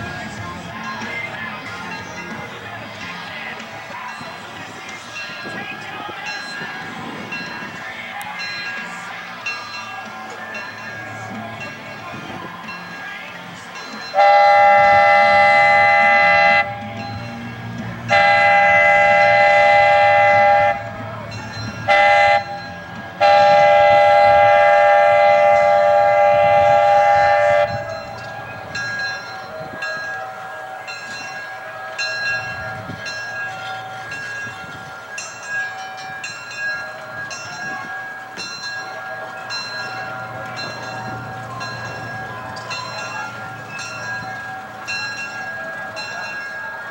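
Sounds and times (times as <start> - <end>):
train bell ringing: 0.0 - 46.9
train running rumble: 0.0 - 46.9
locomotive whistle: 5.1 - 46.9.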